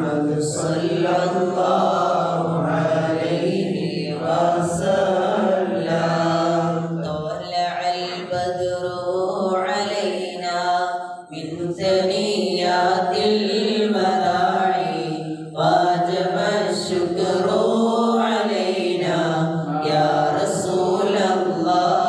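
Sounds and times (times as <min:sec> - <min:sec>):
men chanting through microphones: 0:00.0 - 0:22.0.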